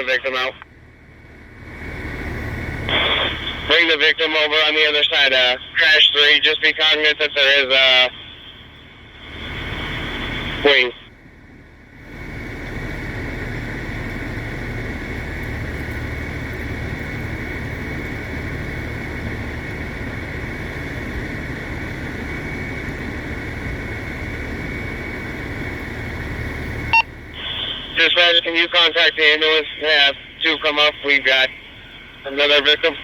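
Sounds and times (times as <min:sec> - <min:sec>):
radio vehicle noise and hiss: 0:00.0 - 0:00.8, 0:01.6 - 0:11.2, 0:12.0 - 0:33.0.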